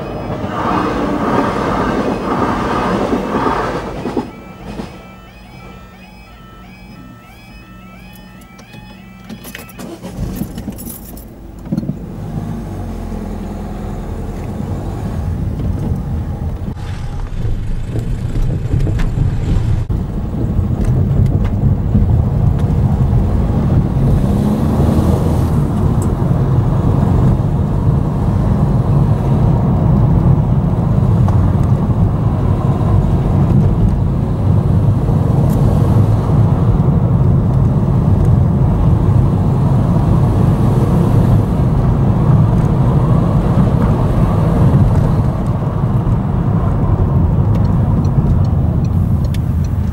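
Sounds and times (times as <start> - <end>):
wind noise: 0.0 - 5.2, 14.2 - 49.9
car engine and tyre rumble: 0.0 - 49.9.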